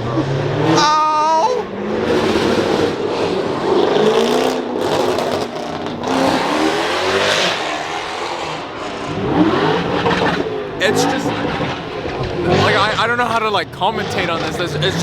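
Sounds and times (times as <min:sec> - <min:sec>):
car engines revving: 0:01.6 - 0:15.0.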